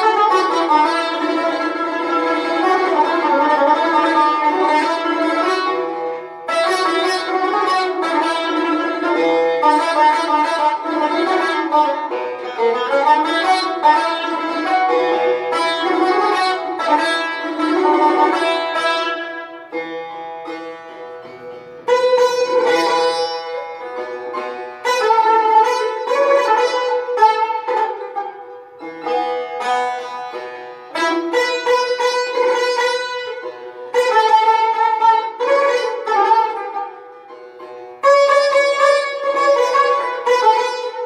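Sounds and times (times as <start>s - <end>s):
plucked lute melody: 0.0s - 41.0s.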